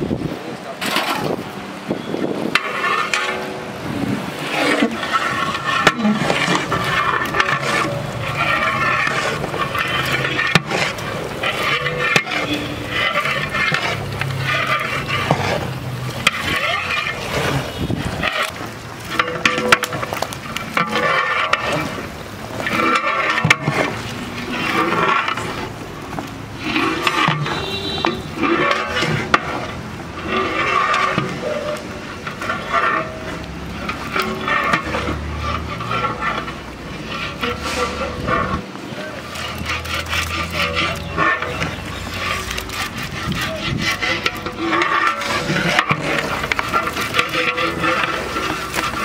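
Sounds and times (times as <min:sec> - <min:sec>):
paddle scraping in metal pot: 0:00.7 - 0:49.0.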